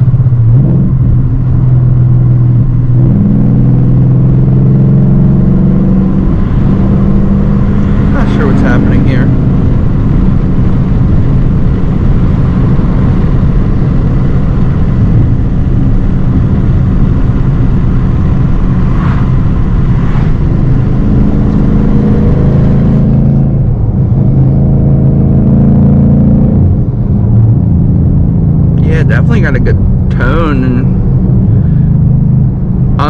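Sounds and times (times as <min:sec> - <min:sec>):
car exhaust note: 0:00.0 - 0:33.0.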